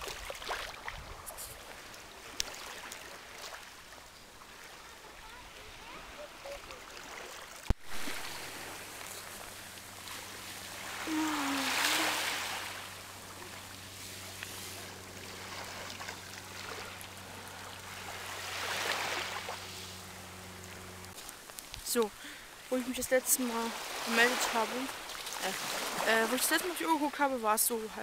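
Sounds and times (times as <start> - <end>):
small waves on stony shore: 0.0 - 28.0
steady low hum: 0.0 - 28.0.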